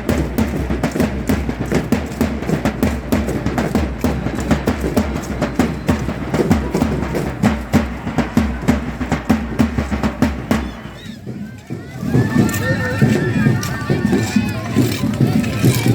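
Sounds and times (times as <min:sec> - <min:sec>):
drum beating fast rhythm: 0:00.0 - 0:15.9.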